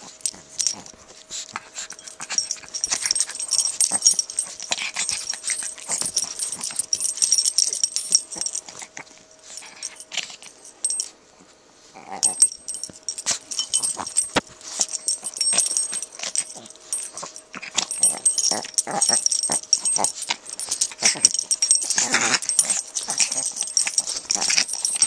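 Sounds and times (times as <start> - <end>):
small dog noises: 0.0 - 25.0.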